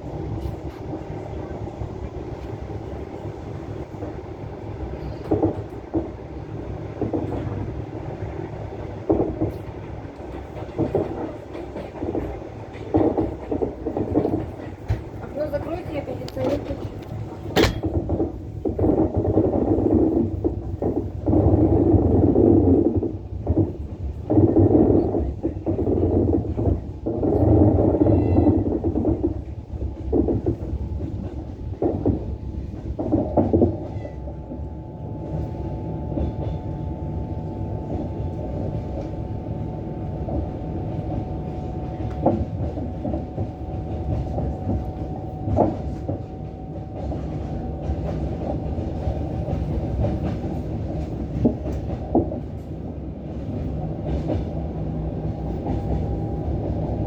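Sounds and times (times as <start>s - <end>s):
train rolling along track: 0.0s - 57.0s.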